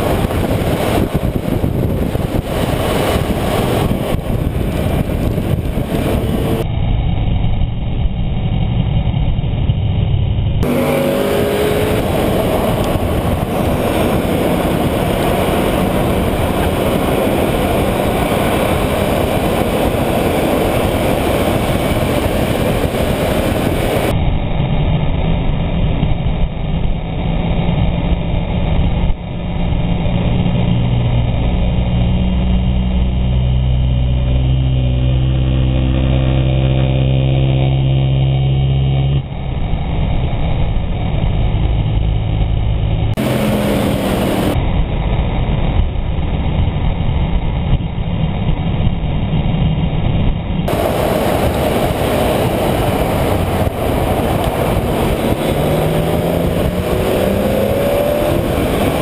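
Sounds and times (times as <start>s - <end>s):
car engine running: 0.0s - 24.2s, 26.4s - 44.9s, 50.5s - 59.0s
heavy wind noise: 0.0s - 59.0s.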